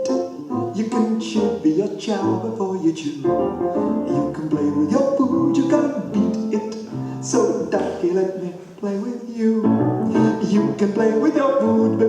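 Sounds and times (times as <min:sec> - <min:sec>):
piano music: 0:00.0 - 0:08.5, 0:09.6 - 0:12.0
person singing: 0:00.0 - 0:12.0.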